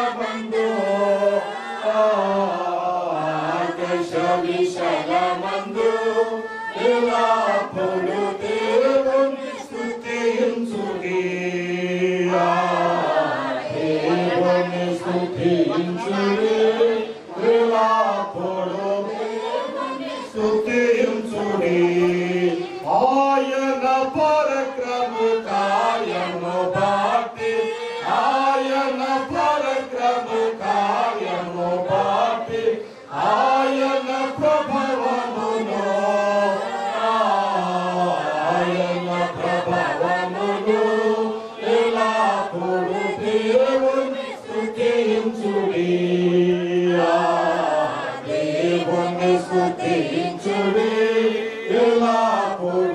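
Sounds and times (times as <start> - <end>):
chant-like devotional singing: 0.0 - 52.9.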